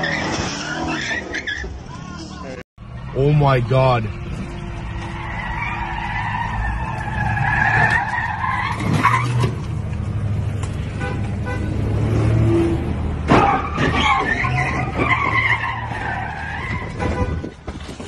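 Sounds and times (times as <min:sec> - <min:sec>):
car tyres screeching: 0:00.0 - 0:18.0.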